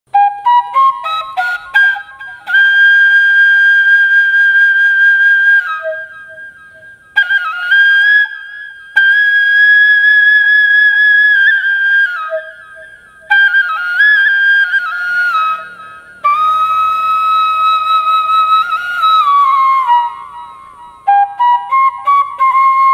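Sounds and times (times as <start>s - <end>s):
solo flute music: 0.1s - 22.9s.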